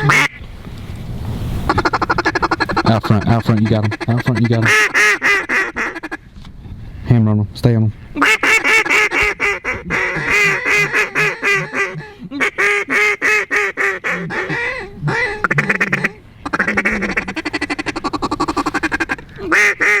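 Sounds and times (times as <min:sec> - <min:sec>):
duck calls quacking: 0:00.0 - 0:00.4, 0:01.7 - 0:06.2, 0:08.2 - 0:20.0
rolling duck call chatter: 0:00.0 - 0:00.4, 0:01.7 - 0:06.2, 0:08.2 - 0:20.0.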